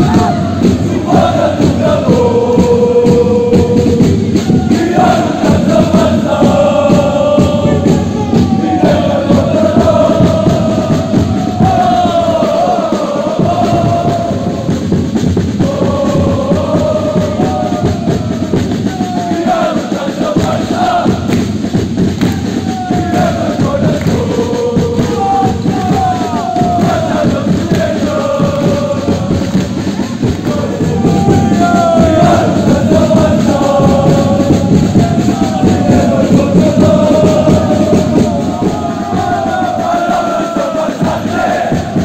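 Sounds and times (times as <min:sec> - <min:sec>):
crowd noise: 0:00.0 - 0:42.0
crowd singing a chant: 0:00.0 - 0:42.0.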